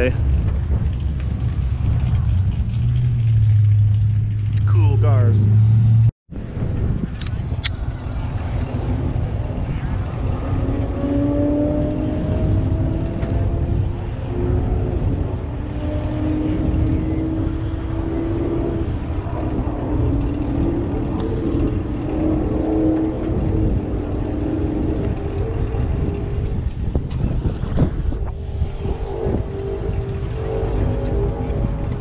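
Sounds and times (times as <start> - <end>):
car engines running: 0.0 - 32.0
low rumble: 0.0 - 32.0.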